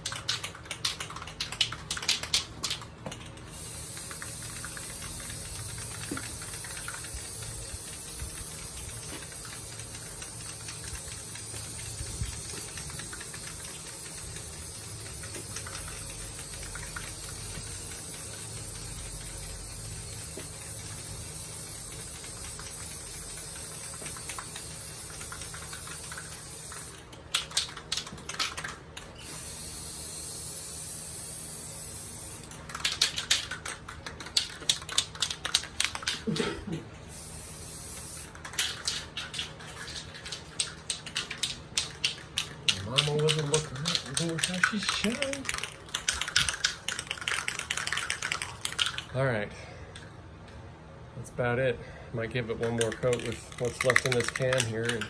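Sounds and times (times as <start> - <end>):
spray can hissing: 0.0 - 36.5, 37.1 - 49.1, 52.6 - 55.0
spray can ball rattling: 0.0 - 49.1, 52.4 - 55.0.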